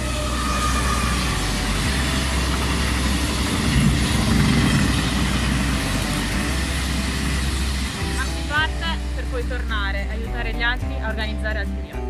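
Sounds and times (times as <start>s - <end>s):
passenger train passing: 0.0s - 10.0s.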